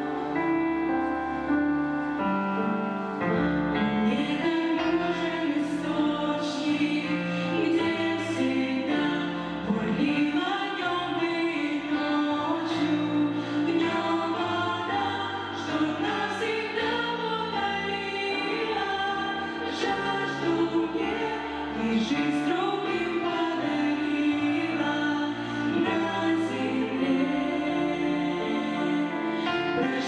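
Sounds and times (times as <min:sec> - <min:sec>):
choir singing sustained chords: 0:00.0 - 0:30.0
musical accompaniment: 0:00.0 - 0:30.0.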